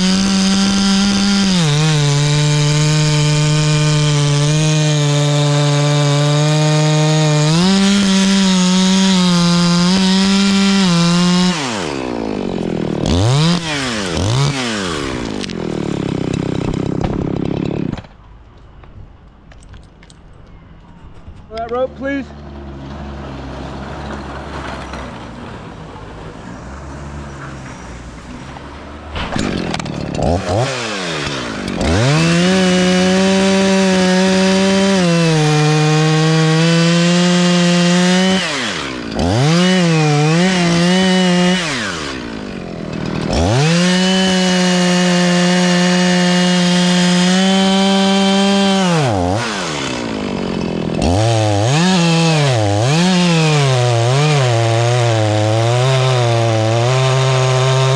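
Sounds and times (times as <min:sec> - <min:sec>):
chainsaw revving: 0:00.0 - 0:18.0, 0:29.2 - 0:57.9.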